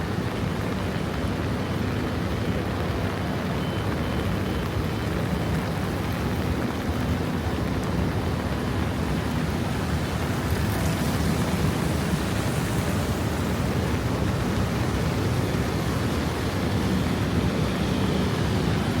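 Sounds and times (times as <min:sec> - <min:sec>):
passing traffic: 0:00.0 - 0:19.0
rain on street: 0:00.0 - 0:19.0.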